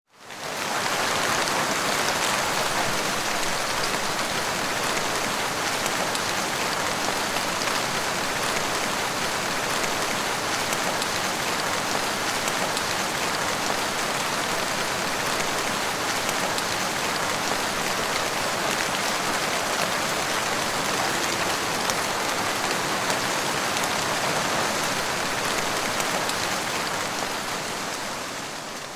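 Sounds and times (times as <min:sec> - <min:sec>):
heavy rain falling: 0:00.2 - 0:28.9.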